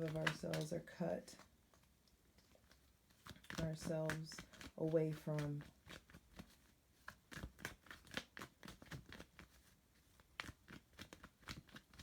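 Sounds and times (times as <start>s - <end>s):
cards being shuffled: 0.0s - 0.8s, 2.4s - 12.0s.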